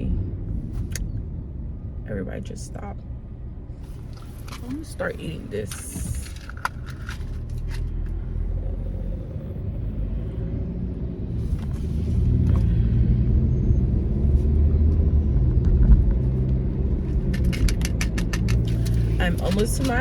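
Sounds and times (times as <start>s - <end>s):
car cabin engine and road rumble: 0.0s - 20.0s.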